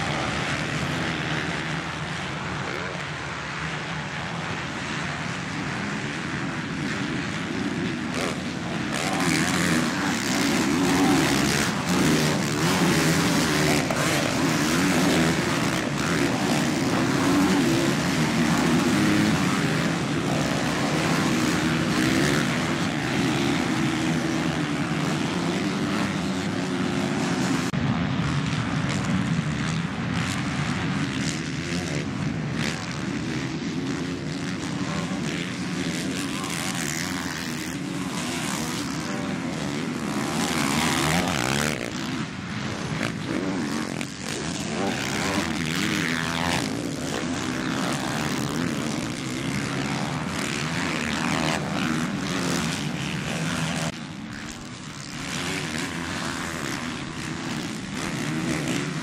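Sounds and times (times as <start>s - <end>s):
motocross bike engines racing: 0.0s - 59.0s.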